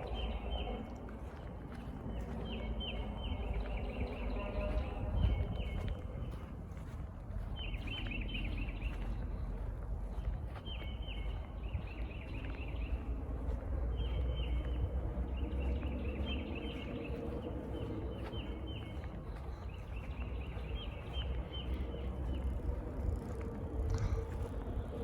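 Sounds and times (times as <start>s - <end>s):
birds chirping: 0.0s - 25.0s
steady low rumble: 0.0s - 25.0s.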